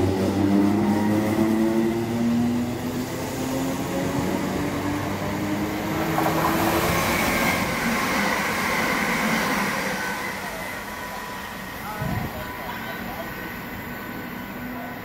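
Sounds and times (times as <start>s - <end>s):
steel wheels on rail: 0.0s - 15.0s
train passing rush: 0.0s - 15.0s.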